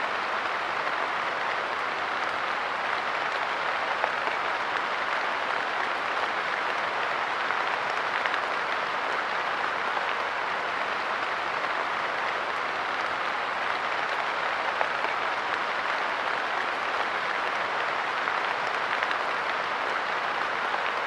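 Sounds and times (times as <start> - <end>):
light rain on a bench: 0.1 - 21.0.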